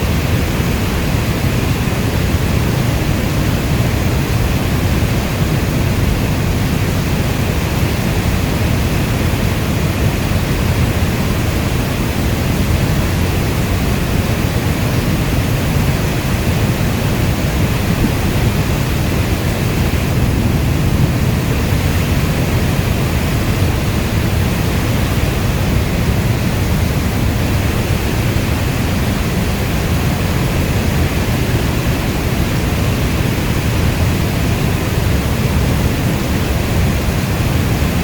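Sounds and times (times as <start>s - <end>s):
heavy rainfall hissing: 0.0s - 38.0s.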